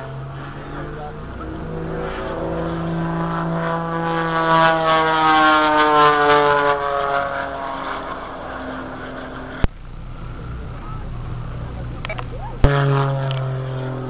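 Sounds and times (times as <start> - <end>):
propeller airplane engine drone: 0.0 - 14.0.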